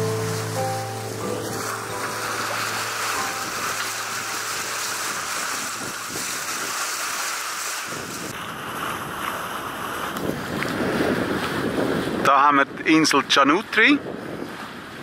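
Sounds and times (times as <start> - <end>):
sea water rushing: 0.0 - 15.0
wind: 0.0 - 15.0
wind rumble on microphone: 1.2 - 15.0.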